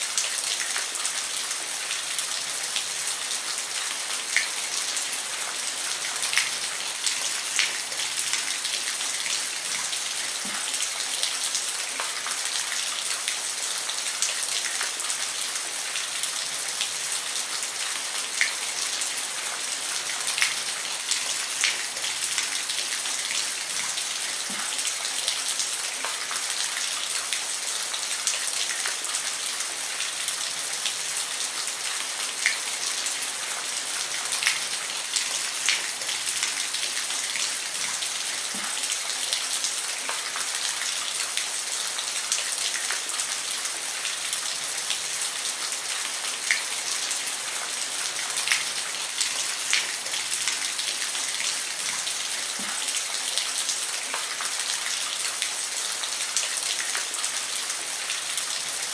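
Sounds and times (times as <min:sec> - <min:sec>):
steady rain on a roof: 0:00.0 - 0:58.9.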